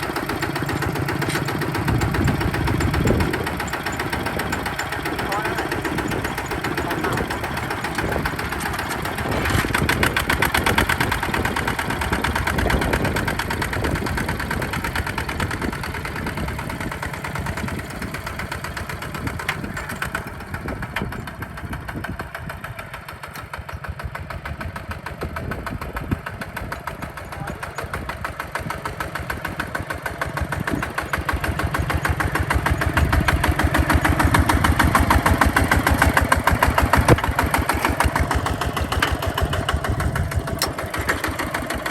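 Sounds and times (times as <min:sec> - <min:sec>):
tractor diesel engine chugging: 0:00.0 - 0:41.9.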